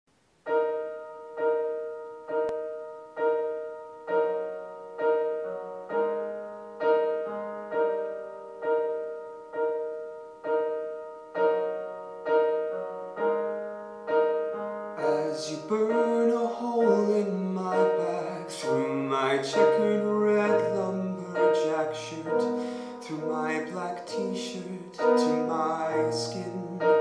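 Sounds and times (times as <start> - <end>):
piano chords: 0.4 - 27.0
low piano bass notes: 0.7 - 27.0.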